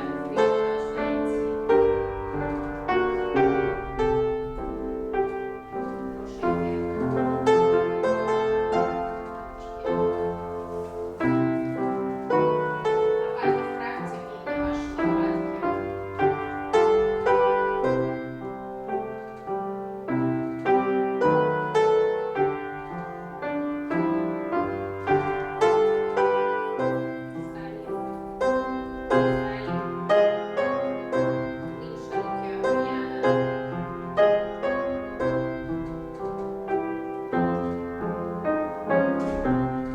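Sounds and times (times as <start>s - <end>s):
piano ballet accompaniment: 0.0s - 39.9s.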